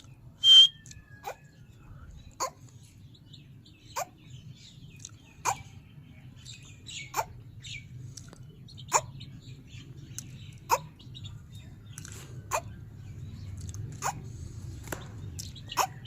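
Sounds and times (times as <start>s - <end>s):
soft bird chirping: 0.0s - 16.0s.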